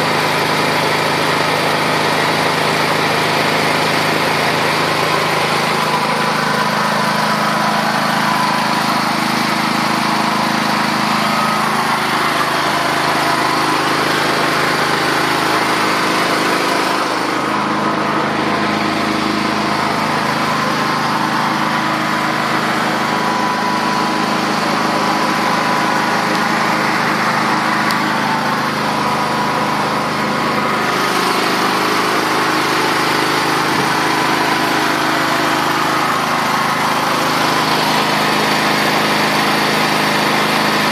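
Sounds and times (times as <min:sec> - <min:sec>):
petrol generator engine running: 0:00.0 - 0:40.9.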